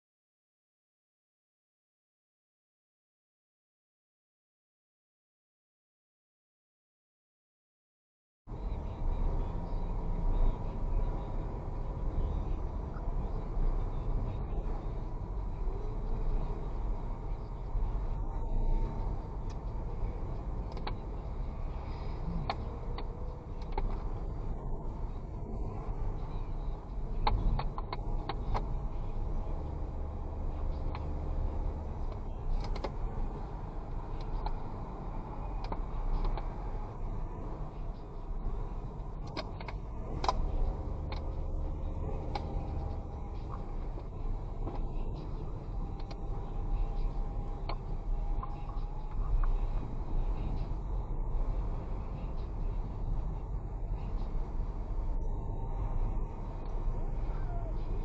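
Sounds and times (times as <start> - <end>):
faint constant hum: 8.5 - 58.0
vehicle engine rumble: 8.5 - 58.0.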